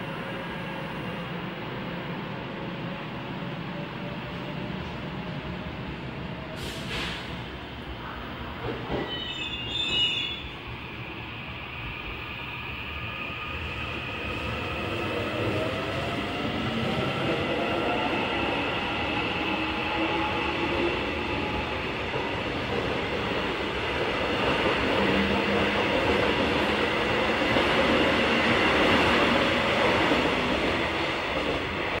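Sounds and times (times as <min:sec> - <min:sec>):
train wheel and rail noise: 0:00.0 - 0:32.0.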